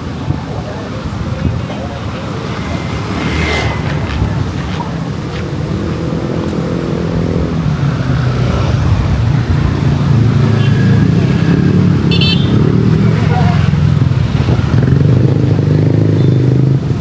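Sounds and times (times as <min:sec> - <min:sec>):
passing vehicle engines: 0:00.0 - 0:17.0.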